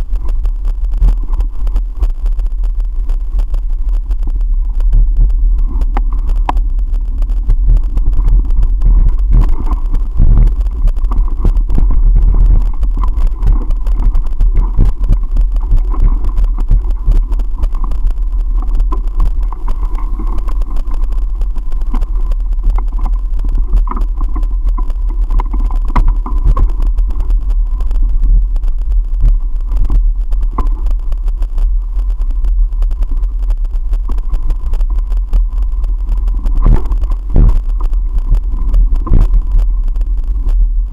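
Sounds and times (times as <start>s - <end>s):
wind rumbling on microphone: 0.0s - 40.9s.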